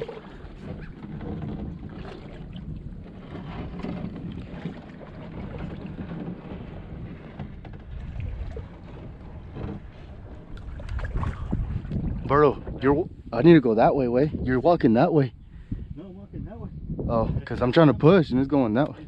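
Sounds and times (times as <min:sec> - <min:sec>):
water sloshing around boat: 0:00.0 - 0:15.9
wind rumble on microphone: 0:00.0 - 0:19.0.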